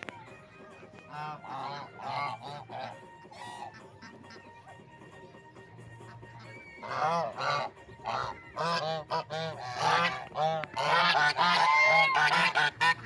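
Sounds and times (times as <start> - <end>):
geese honking: 1.0 - 4.7, 6.0 - 13.0.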